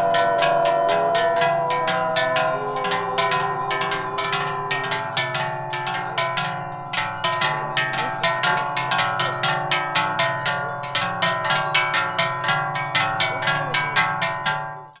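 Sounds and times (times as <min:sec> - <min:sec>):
cowbells ringing: 0:00.0 - 0:15.0.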